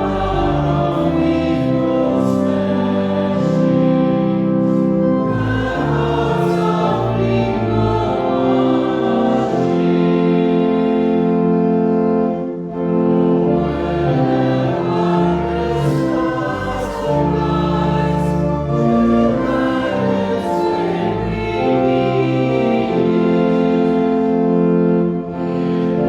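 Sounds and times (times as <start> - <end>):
group singing a hymn: 0.0 - 26.0
sustained keyboard accompaniment: 0.0 - 26.0.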